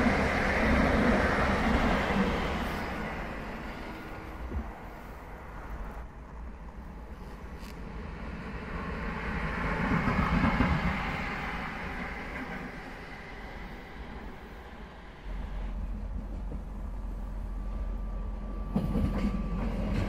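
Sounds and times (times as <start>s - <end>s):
departing electric train: 0.0s - 20.0s
electric locomotive passing: 0.0s - 20.0s.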